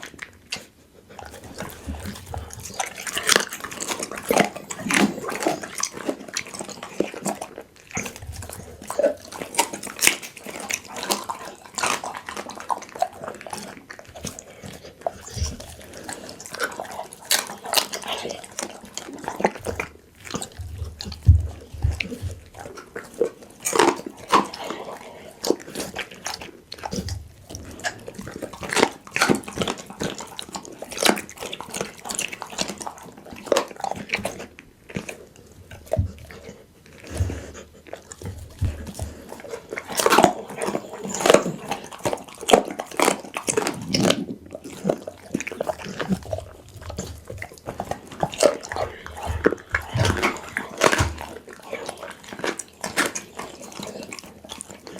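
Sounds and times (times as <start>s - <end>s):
dog chewing and crunching food: 0.0s - 54.9s.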